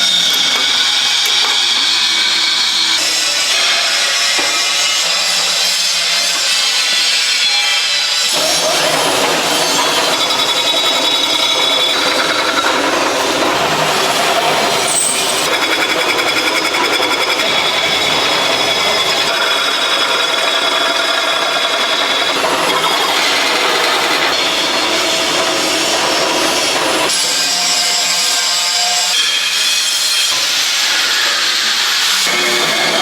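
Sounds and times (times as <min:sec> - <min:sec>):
power tool grinding: 0:00.0 - 0:33.0.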